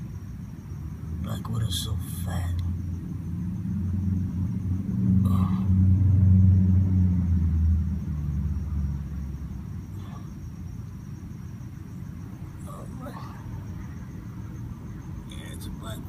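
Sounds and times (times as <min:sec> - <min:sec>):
passing vehicle engine rumble: 0:00.7 - 0:16.0.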